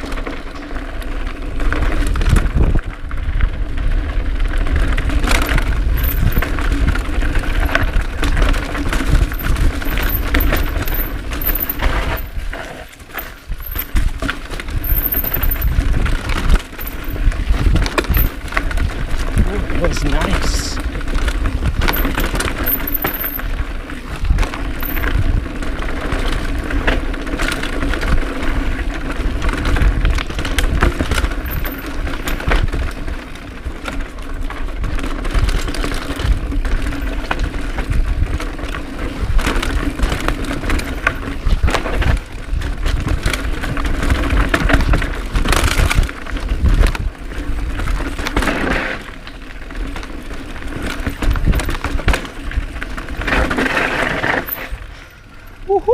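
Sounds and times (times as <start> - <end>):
mountain bike rattling down trail: 0.0 - 55.9.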